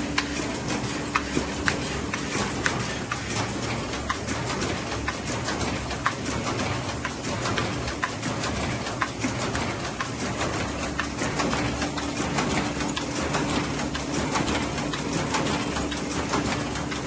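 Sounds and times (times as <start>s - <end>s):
envelope inserter machine clattering: 0.0s - 17.0s.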